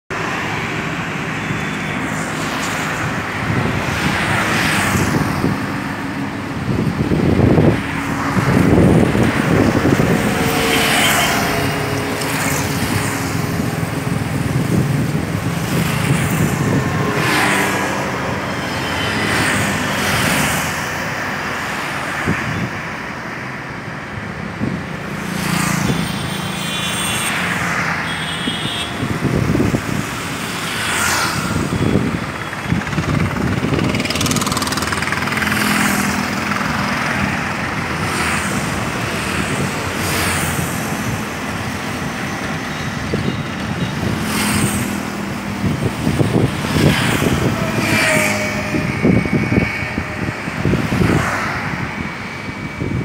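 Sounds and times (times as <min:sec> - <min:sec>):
cars and motorbikes passing: 0:00.1 - 0:53.0
steady traffic hum: 0:00.1 - 0:53.0.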